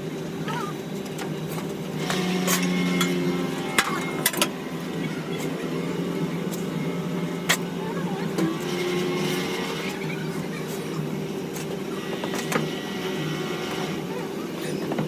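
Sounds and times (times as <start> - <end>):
steady machine drone: 0.0 - 15.0.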